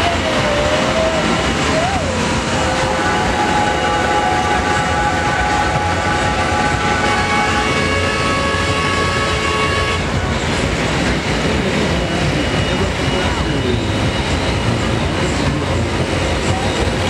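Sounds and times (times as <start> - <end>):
high whine: 0.0 - 17.0
tractor diesel engine under load: 0.0 - 17.0.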